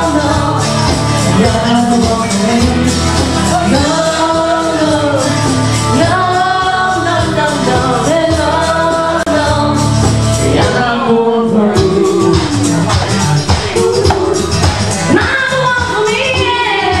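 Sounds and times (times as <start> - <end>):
karaoke backing track: 0.0 - 17.0
woman singing into microphone: 0.0 - 17.0.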